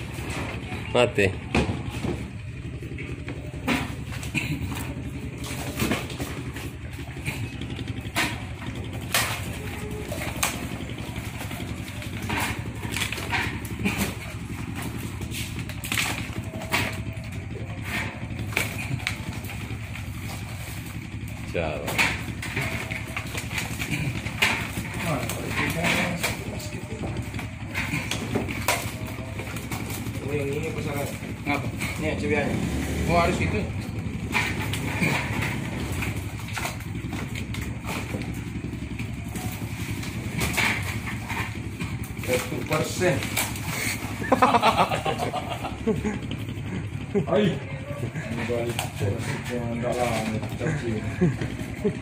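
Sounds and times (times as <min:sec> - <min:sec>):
low engine-like hum: 0:00.0 - 0:52.0
crabs clattering in plastic crates: 0:01.4 - 0:45.6.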